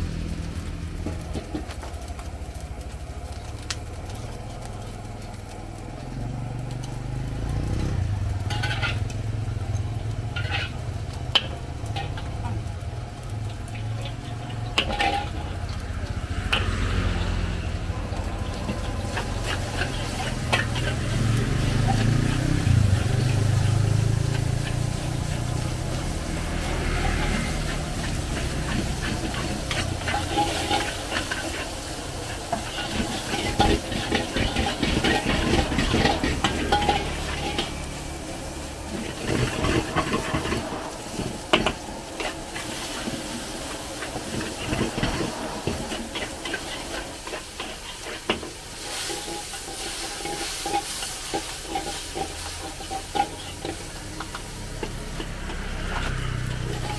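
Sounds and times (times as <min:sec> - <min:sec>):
rice sizzling: 0:00.0 - 0:56.9
spatulas scraping steel woks: 0:00.4 - 0:02.6, 0:04.0 - 0:56.9.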